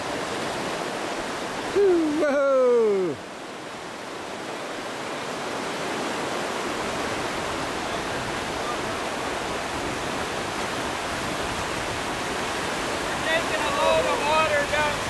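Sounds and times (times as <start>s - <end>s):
river rapids roaring: 0.0s - 15.0s.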